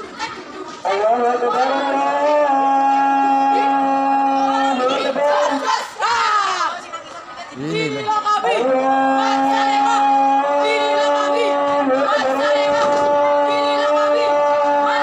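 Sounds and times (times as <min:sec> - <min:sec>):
girls singing in unison: 0:00.0 - 0:07.0, 0:08.1 - 0:15.0.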